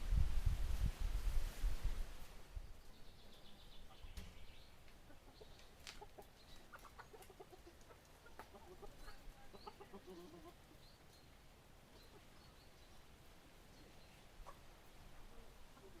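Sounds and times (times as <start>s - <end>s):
small birds chirping: 2.4s - 16.0s
chickens clucking: 3.2s - 16.0s.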